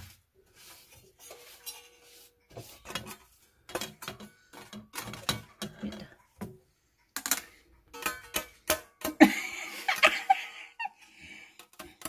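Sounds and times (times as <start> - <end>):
metal trays and utensils clinking: 0.0 - 10.4.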